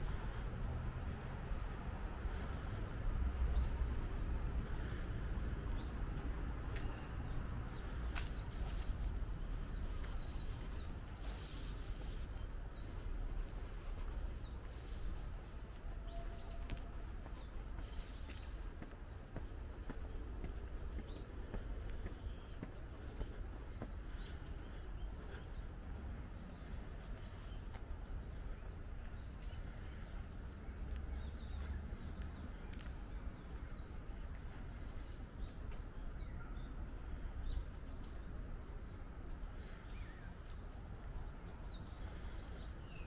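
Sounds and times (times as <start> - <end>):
low outdoor rumble: 0.0 - 43.0
small birds chirping: 0.0 - 43.0.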